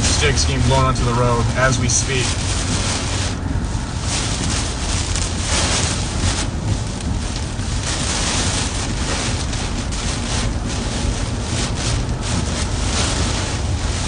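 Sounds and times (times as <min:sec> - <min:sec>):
car rumbling on road: 0:00.0 - 0:14.0
gusty wind around car: 0:00.0 - 0:14.0.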